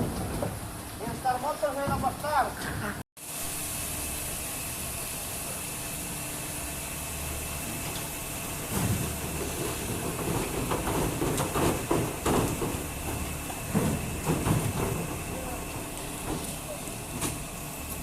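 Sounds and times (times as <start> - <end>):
machine hissing and humming: 3.2 - 18.0.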